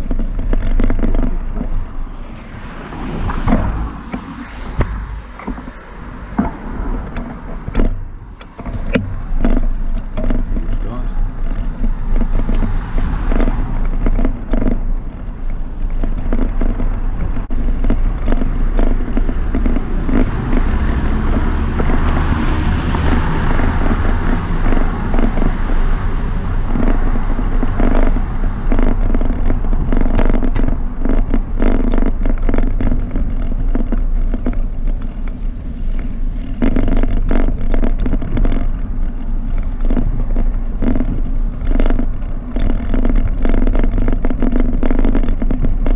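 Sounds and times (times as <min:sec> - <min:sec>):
bike rattling over paving: 0:00.0 - 0:45.9
rumbling rush on microphone: 0:00.0 - 0:45.9.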